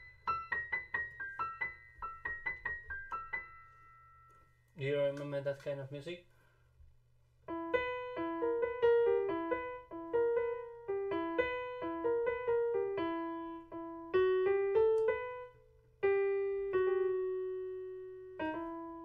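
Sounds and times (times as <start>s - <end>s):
piano melody: 0.0s - 5.5s, 7.4s - 19.0s.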